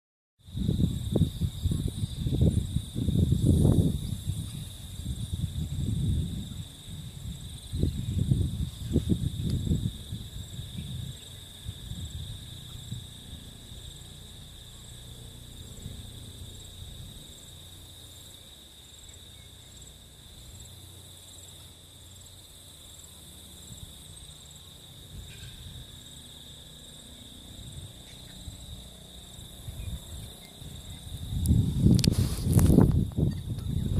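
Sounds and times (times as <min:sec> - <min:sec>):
insects chirring: 0:00.4 - 0:33.9
low rumbling noise: 0:00.5 - 0:33.9.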